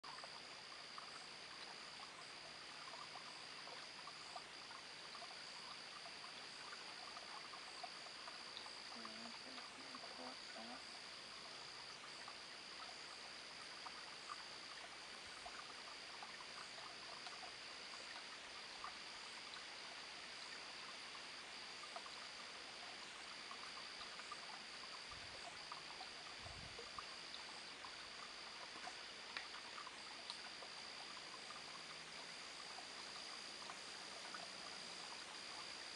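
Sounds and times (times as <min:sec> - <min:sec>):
frogs chirping and croaking: 0:00.0 - 0:35.9
high-pitched insect trill: 0:00.0 - 0:35.9.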